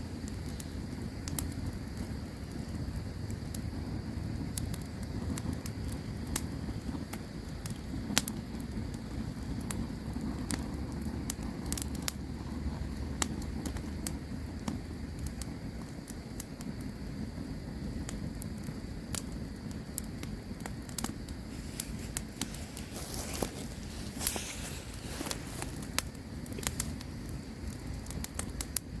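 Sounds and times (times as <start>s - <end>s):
campfire crackling and popping: 0.0s - 29.0s
low rumble of burning wood: 0.0s - 29.0s.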